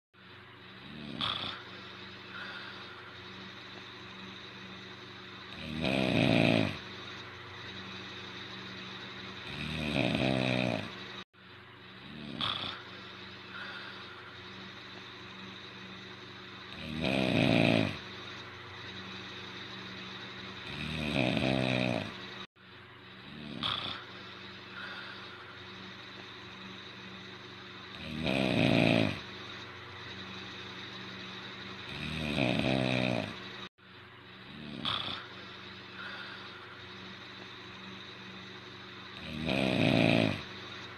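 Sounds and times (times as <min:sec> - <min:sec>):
steady low hum: 0:00.2 - 0:40.9
man snoring: 0:00.7 - 0:11.3, 0:12.0 - 0:22.5, 0:23.2 - 0:33.7, 0:34.4 - 0:40.9.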